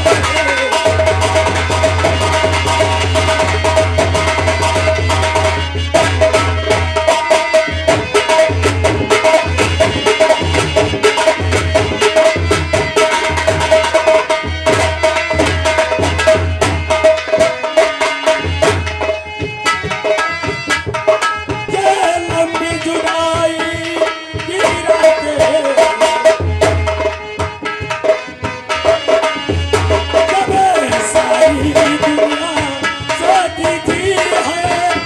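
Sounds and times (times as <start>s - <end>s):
hand drums playing quick rhythm: 0.0s - 35.0s.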